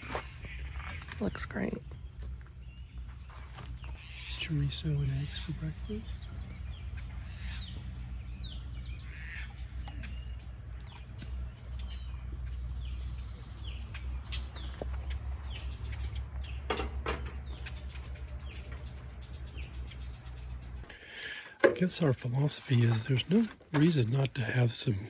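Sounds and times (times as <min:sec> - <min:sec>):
steady low hum: 0:00.0 - 0:23.2
small birds chirping: 0:00.0 - 0:25.0.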